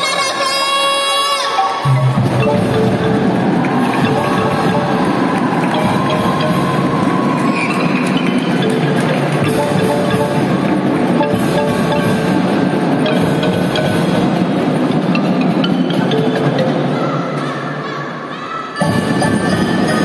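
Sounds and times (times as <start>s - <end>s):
marimbas and xylophones: 1.5s - 20.0s
drums: 1.8s - 17.0s, 18.8s - 20.0s.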